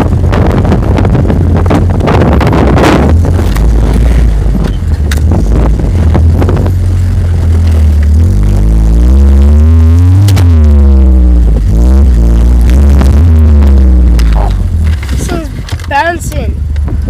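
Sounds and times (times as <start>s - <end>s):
wind buffeting microphone: 0.0s - 8.9s, 11.2s - 17.0s
vehicle engine rumble: 0.0s - 17.0s.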